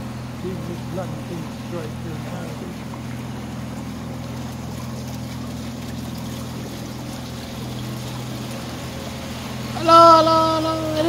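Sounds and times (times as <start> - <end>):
boat engine droning: 0.0 - 11.0
water swishing along hull: 0.0 - 11.0.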